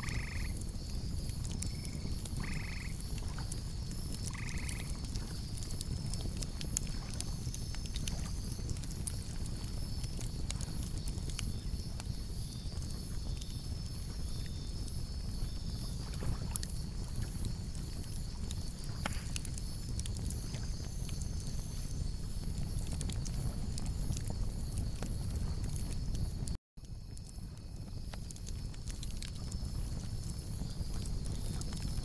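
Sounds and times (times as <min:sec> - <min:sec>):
campfire crackling and popping: 0:00.0 - 0:32.0
insects chirping: 0:00.0 - 0:32.0.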